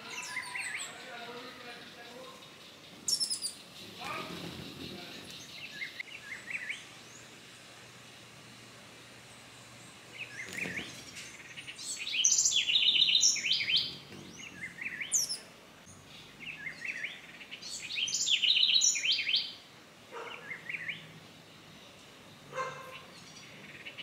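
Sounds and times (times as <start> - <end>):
bird singing: 0.0 - 7.5, 9.2 - 24.0.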